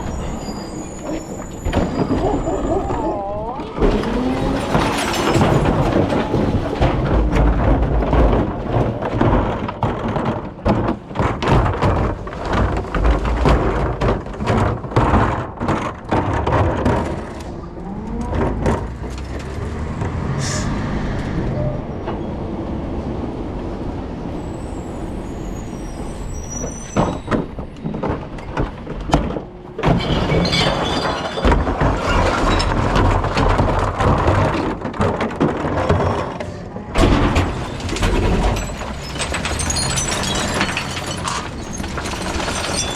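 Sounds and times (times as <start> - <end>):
clattering and banging: 0.0 - 23.0, 25.8 - 42.9.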